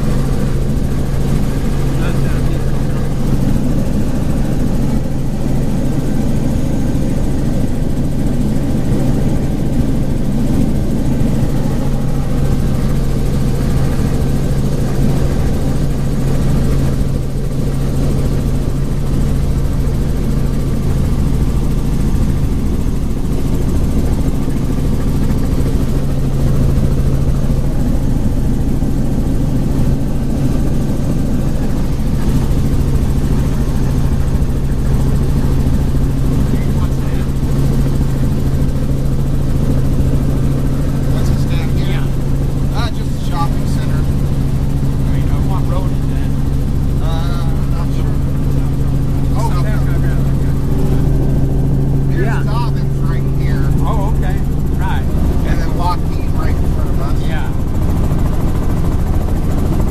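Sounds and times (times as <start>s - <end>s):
helicopter drone: 0.0s - 59.9s.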